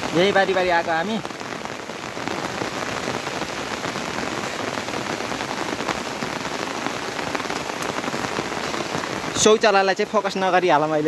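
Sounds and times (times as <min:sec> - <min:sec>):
steady rain patter: 0:00.0 - 0:11.0.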